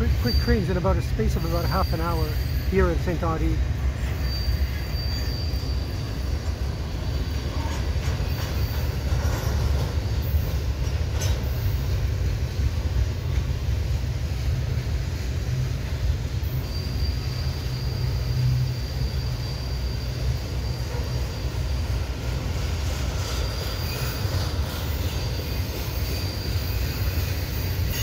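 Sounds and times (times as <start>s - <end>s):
high wheel squeal: 0.0s - 12.0s, 16.3s - 28.0s
freight cars rumbling on rails: 0.0s - 28.0s.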